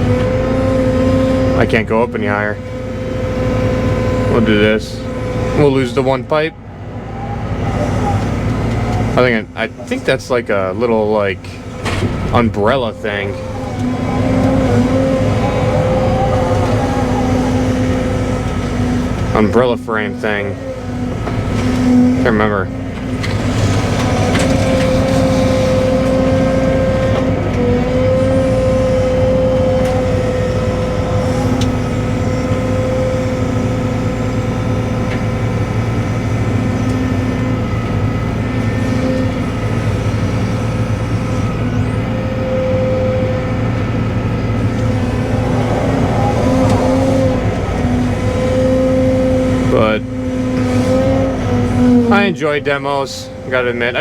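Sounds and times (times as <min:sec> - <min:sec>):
excavator diesel engine running: 0:00.0 - 0:54.0
held whine: 0:00.0 - 0:54.0.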